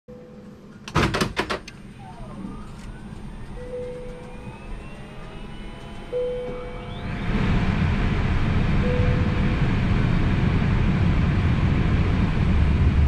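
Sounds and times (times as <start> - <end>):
electrical whines rising in pitch: 1.8 - 13.0.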